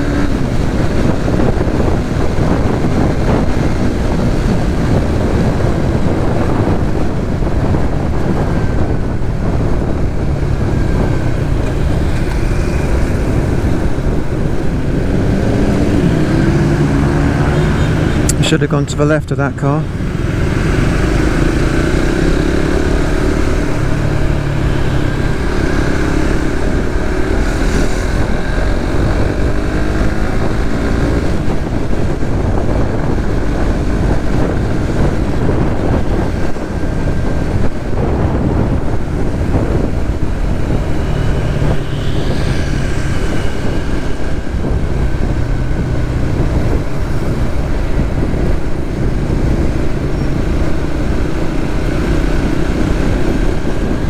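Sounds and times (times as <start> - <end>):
motorcycle engine running: 0.0 - 18.8, 19.8 - 54.0
low traffic rumble: 0.0 - 54.0.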